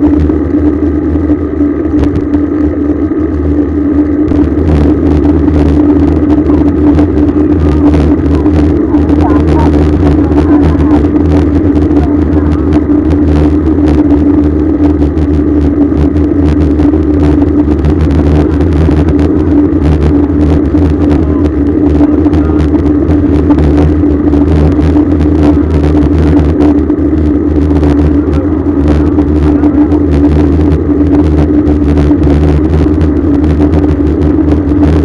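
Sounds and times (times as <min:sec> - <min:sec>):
constant low hum: 0:00.0 - 0:35.0
wind and road noise: 0:00.0 - 0:35.0.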